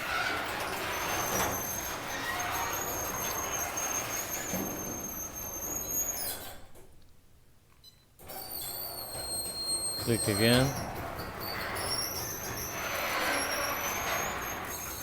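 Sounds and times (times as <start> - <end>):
garage door opener rumble: 0.0 - 6.2, 8.3 - 15.0.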